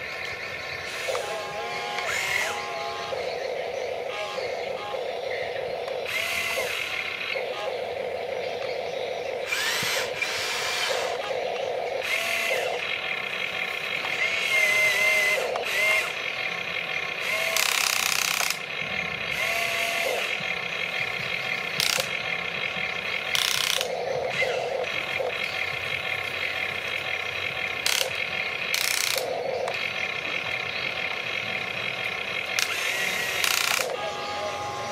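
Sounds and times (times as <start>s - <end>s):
electric motors whining: 0.0s - 34.9s.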